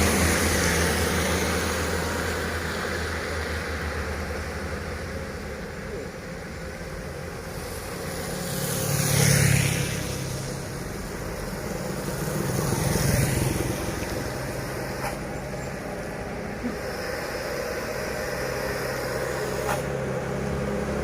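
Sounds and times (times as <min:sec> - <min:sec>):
low engine drone: 0:00.0 - 0:21.0
vehicles passing close by: 0:00.0 - 0:21.0.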